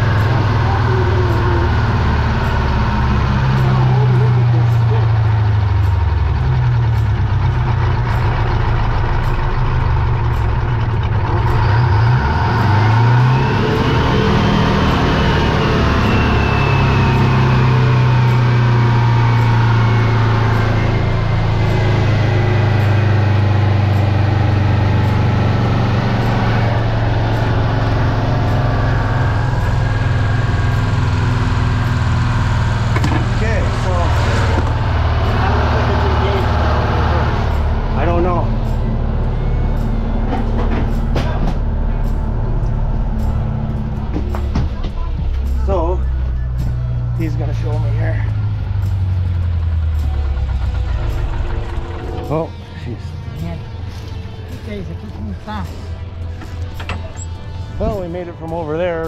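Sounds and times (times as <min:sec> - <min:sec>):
bus diesel engine running: 0:00.0 - 0:59.0
high whine: 0:00.0 - 0:59.0.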